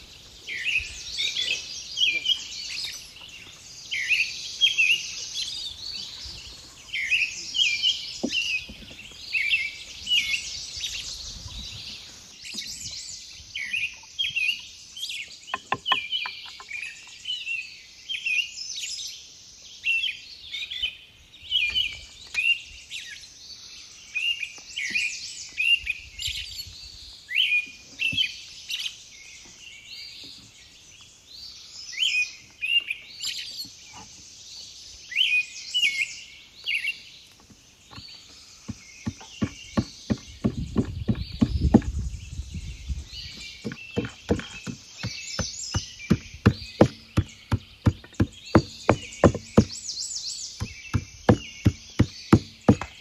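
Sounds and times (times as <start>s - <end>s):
birds chirping and singing: 0.0s - 53.0s.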